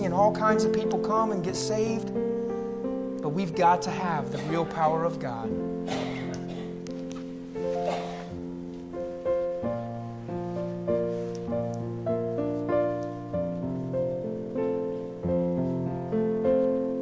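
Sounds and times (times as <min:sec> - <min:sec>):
slow soft piano: 0:00.0 - 0:17.0.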